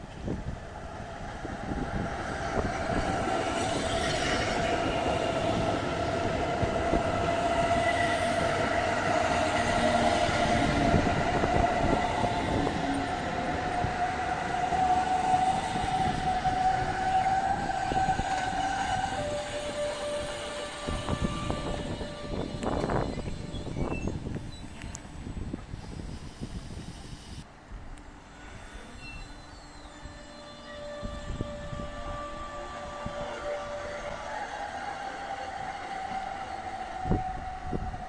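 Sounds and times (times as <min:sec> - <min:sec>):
train wheels rumbling on rails: 0:00.0 - 0:26.9, 0:30.1 - 0:38.0
electric train whine: 0:00.0 - 0:38.0.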